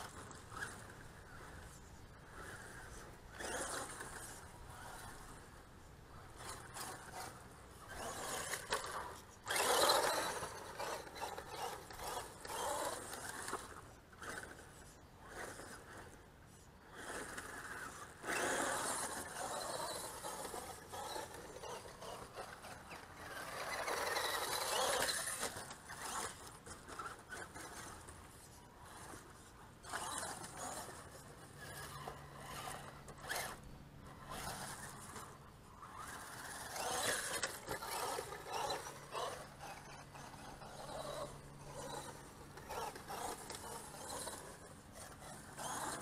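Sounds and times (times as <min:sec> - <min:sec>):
tyres scrabbling on dirt: 0:00.0 - 0:05.6, 0:06.2 - 0:16.2, 0:17.0 - 0:46.0
rc truck motor revving: 0:00.0 - 0:46.0.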